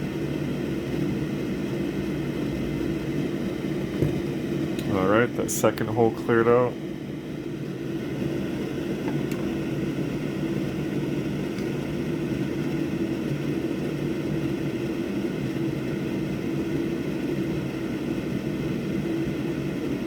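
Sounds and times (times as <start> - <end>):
electric motor hum: 0.0 - 20.0.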